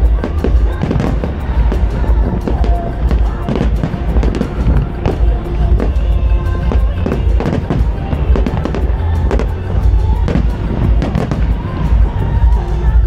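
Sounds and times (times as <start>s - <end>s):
deep rumble: 0.0s - 13.0s
fireworks bursting: 0.0s - 13.0s
music playing: 0.0s - 13.0s.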